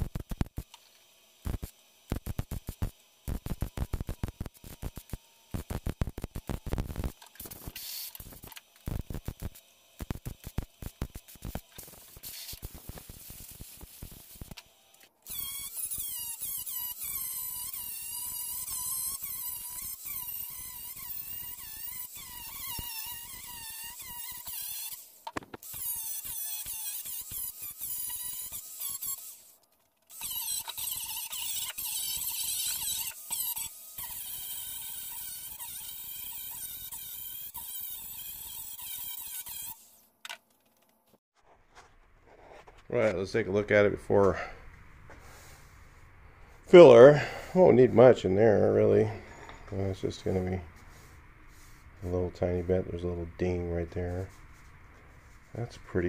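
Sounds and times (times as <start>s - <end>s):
angle grinder whining: 0.0s - 40.0s, 46.7s - 56.0s.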